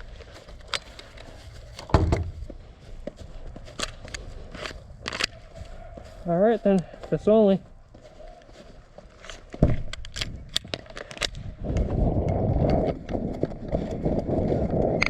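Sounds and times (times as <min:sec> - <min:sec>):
footsteps and gear rustling: 0:00.0 - 0:15.0.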